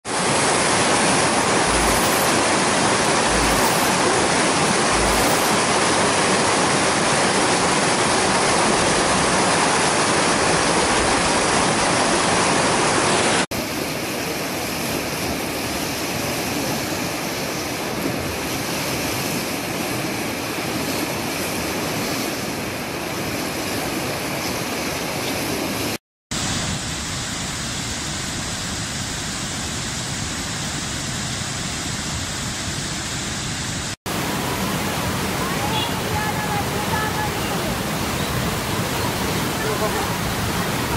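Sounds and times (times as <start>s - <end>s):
rushing river rapids: 0.1s - 26.6s, 33.4s - 40.9s.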